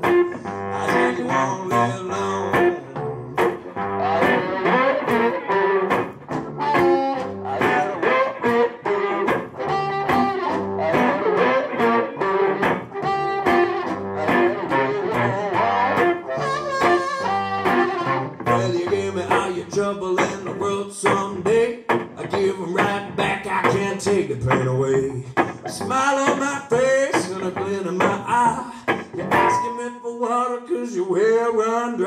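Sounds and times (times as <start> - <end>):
electric slide guitar blues: 0.0 - 30.6
stomped beat: 2.6 - 12.0, 12.6 - 29.6.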